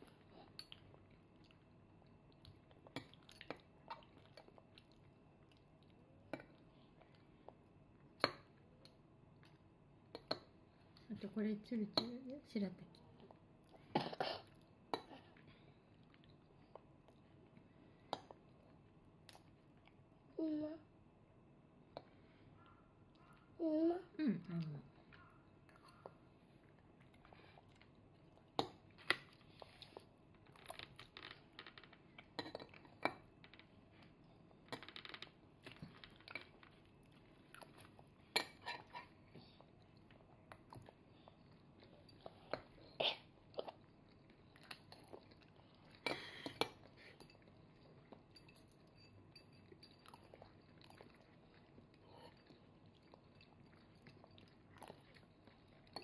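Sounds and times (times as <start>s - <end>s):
soft chewing: 0.0s - 20.3s, 21.7s - 56.0s.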